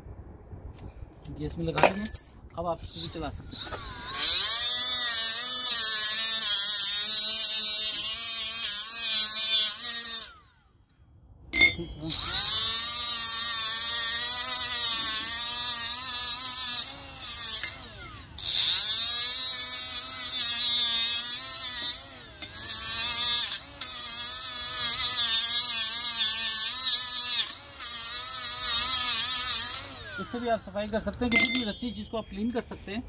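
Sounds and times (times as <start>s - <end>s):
die grinder whining: 2.8s - 10.6s, 11.6s - 31.9s.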